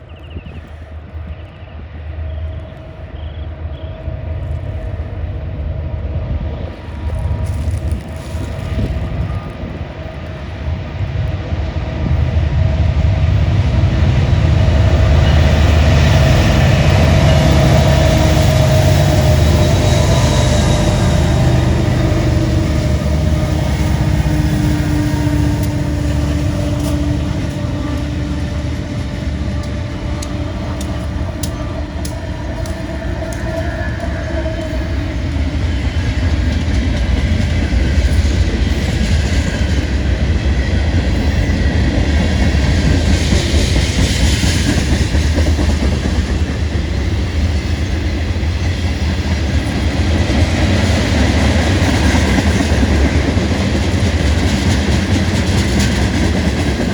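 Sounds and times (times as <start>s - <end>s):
freight train rumbling past: 0.0s - 56.9s.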